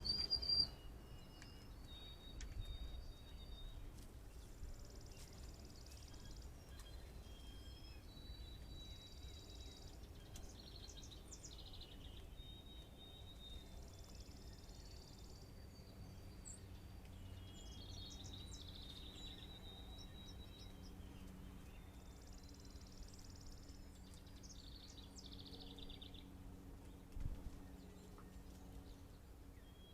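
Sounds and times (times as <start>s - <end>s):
songbirds singing and chirping: 0.0s - 29.9s.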